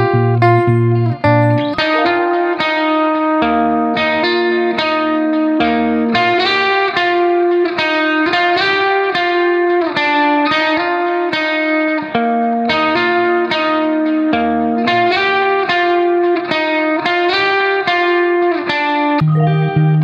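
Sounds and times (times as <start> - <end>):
guitar melody: 0.0 - 20.0.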